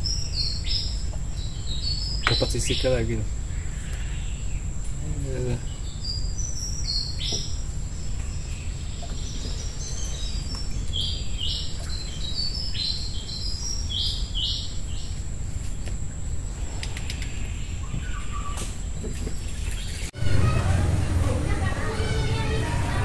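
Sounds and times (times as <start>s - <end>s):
crickets and insects buzzing: 0.0s - 20.1s
steady low hum: 0.0s - 23.0s.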